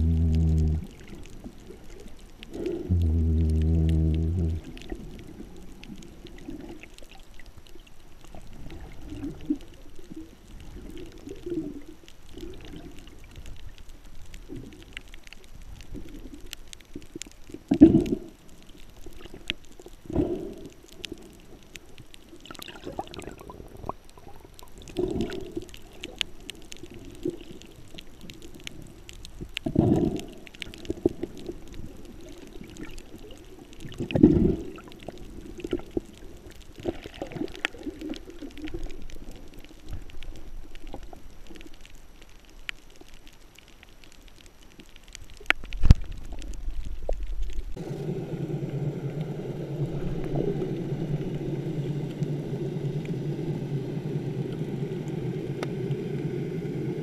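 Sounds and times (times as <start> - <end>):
underwater bubbles rushing: 0.0 - 42.0, 44.4 - 57.0
faint clicking: 0.0 - 57.0.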